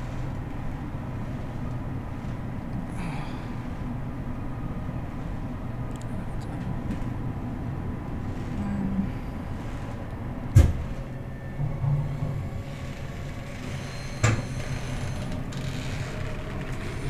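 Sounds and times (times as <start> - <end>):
vehicle cabin rumble: 0.0 - 17.0.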